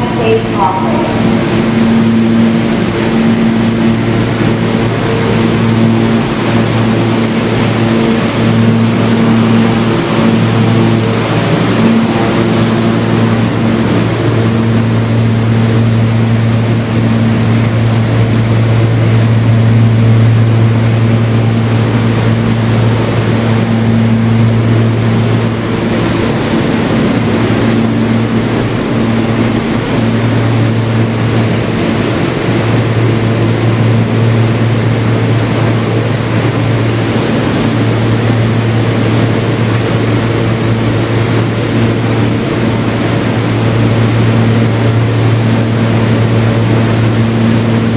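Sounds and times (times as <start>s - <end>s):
strong low hum: 0.0s - 47.9s
subway wheels rumbling on rails: 0.0s - 47.9s.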